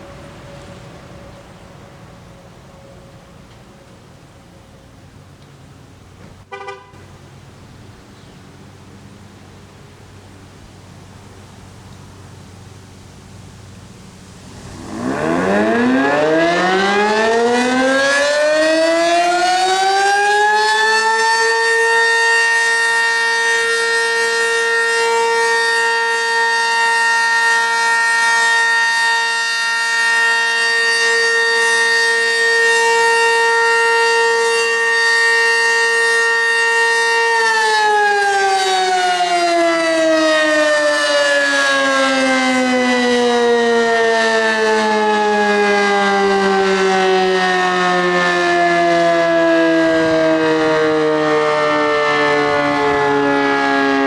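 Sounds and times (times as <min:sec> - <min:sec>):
two-tone tornado siren: 0:00.0 - 0:05.4, 0:14.4 - 0:54.0.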